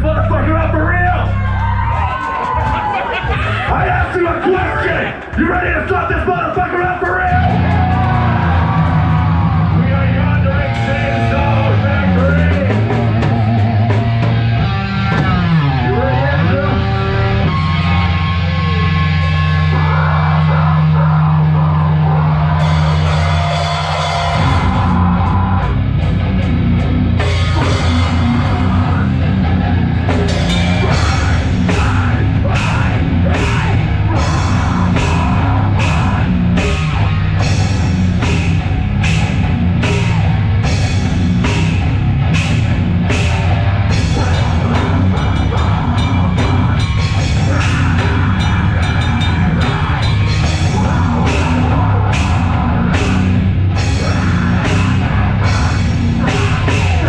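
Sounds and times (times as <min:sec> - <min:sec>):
droning guitar and bass: 0:00.0 - 0:04.2, 0:06.8 - 0:57.0
metal band playing: 0:00.0 - 0:57.0.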